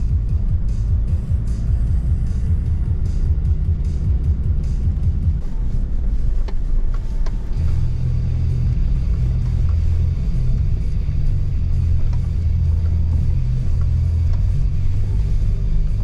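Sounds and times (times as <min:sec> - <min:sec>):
electronic music: 0:00.0 - 0:16.0
vehicle low rumble: 0:00.0 - 0:16.0.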